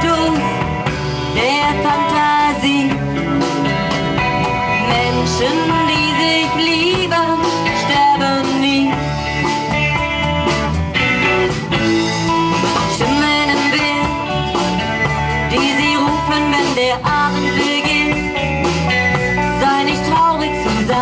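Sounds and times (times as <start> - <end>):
guitars: 0.0 - 21.0
live band playing: 0.0 - 21.0.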